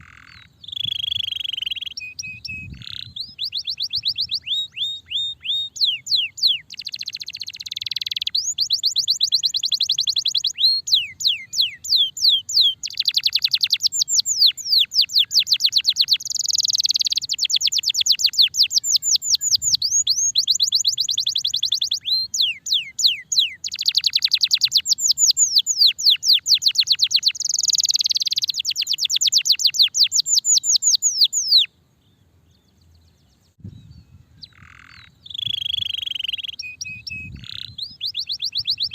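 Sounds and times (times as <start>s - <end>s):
canary singing: 0.0s - 31.7s, 32.6s - 38.9s.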